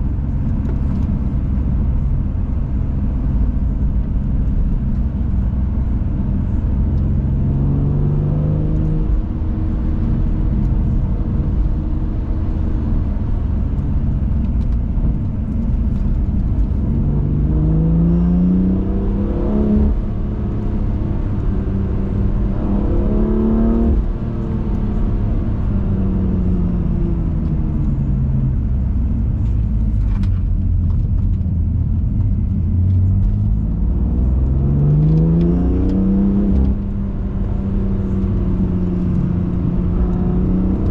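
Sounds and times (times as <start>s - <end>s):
car engine accelerating: 0.0s - 40.9s
road and wind rumble: 0.0s - 40.9s.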